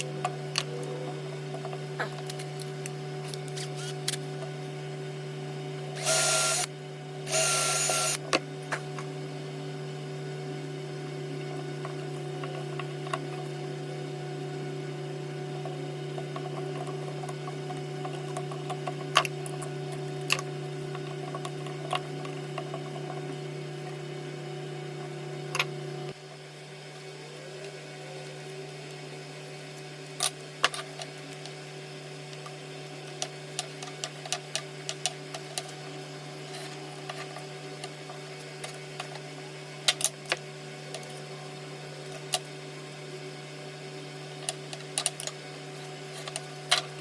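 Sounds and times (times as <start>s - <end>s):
machine hum: 0.0s - 47.0s.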